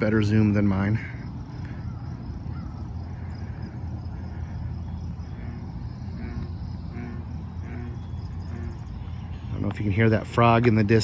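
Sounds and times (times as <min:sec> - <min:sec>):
crickets chirping: 0:00.0 - 0:11.0
distant frog calling: 0:00.0 - 0:11.0
distant road traffic: 0:00.0 - 0:11.0.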